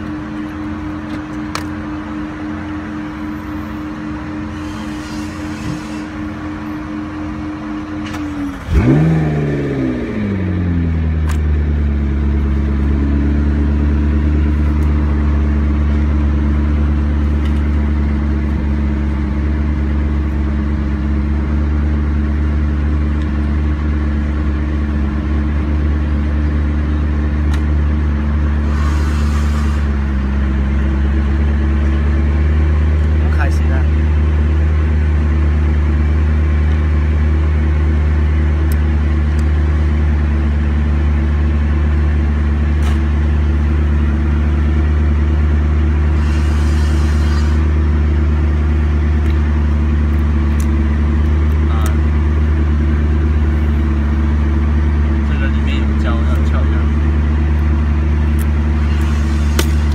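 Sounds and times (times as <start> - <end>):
car engine starting and idling: 0.0 - 59.9.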